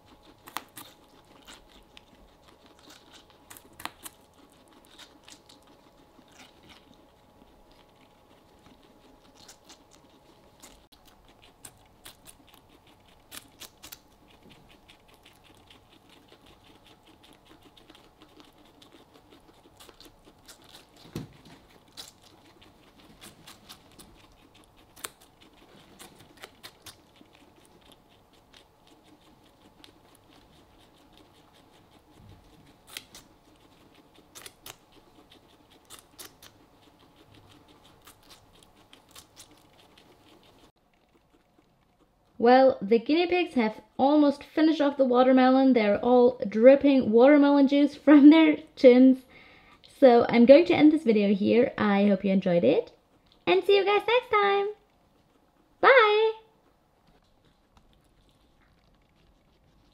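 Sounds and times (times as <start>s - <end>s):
guinea pigs chewing watermelon: 0.0s - 59.9s.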